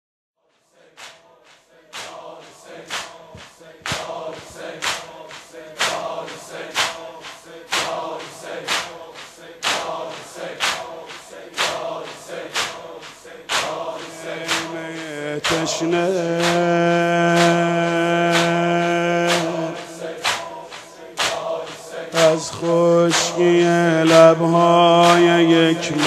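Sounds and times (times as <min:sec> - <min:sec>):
rhythmic chest slaps: 0:00.5 - 0:26.0
men chanting in unison: 0:00.6 - 0:26.0.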